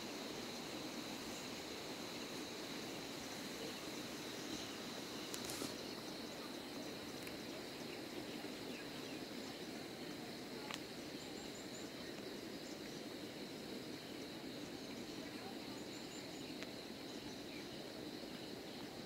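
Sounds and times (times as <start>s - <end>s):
high insect drone: 0.0s - 19.0s
soft even hiss: 0.0s - 19.0s.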